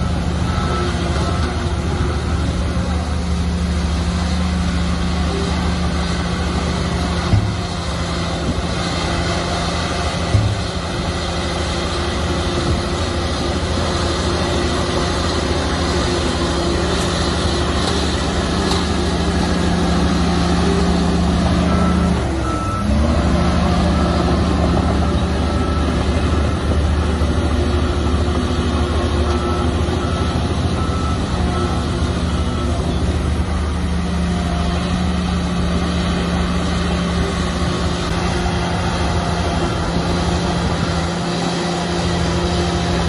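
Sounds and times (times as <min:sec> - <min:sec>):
diesel machinery engine running: 0:00.0 - 0:43.0
reversing alarm beeping: 0:00.0 - 0:43.0.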